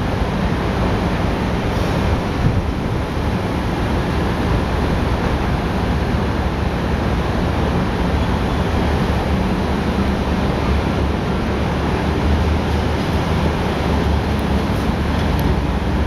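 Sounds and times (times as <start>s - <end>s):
armoured vehicle diesel engine: 0.0s - 16.0s.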